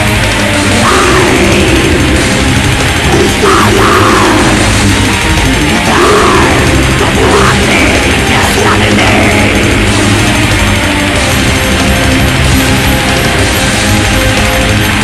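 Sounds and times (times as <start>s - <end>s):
loud heavy metal music: 0.0s - 15.0s.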